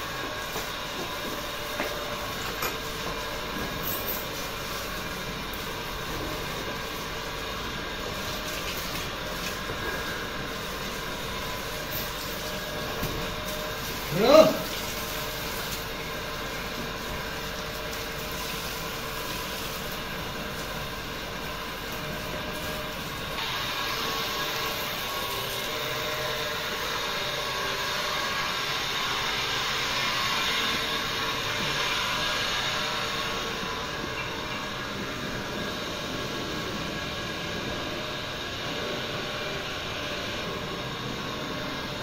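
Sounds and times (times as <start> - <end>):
hose water spraying on concrete: 0.0 - 42.0.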